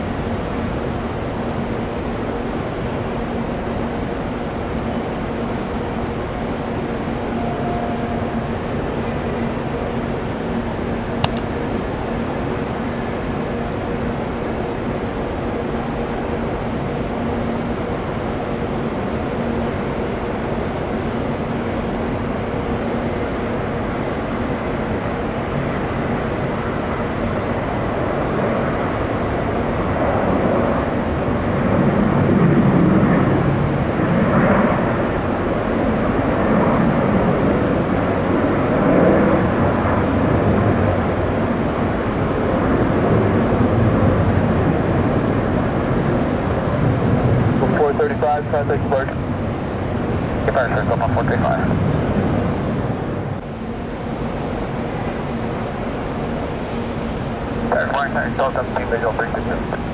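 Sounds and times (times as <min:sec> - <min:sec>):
jet engines roaring at takeoff: 0:00.0 - 0:59.9.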